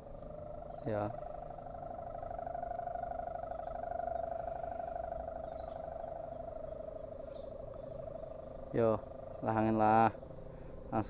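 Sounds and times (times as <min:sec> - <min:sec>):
kite hummer droning in wind: 0:00.0 - 0:11.0.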